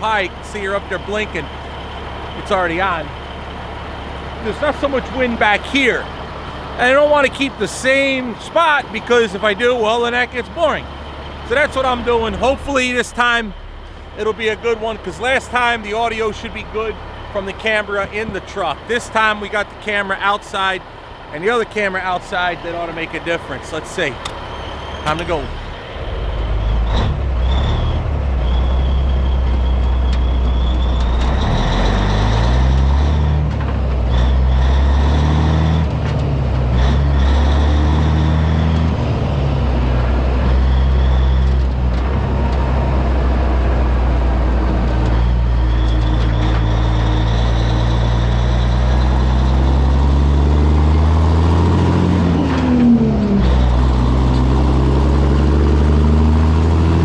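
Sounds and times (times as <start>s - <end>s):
diesel truck accelerating through gears: 0.0s - 57.0s.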